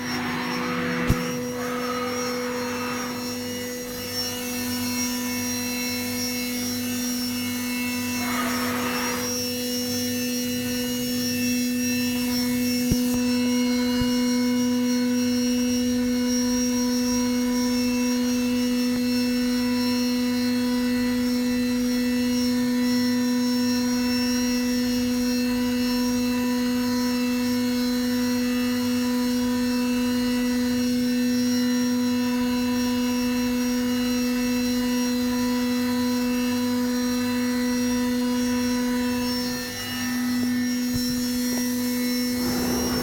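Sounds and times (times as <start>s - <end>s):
cnc machine whine: 0.0s - 43.0s.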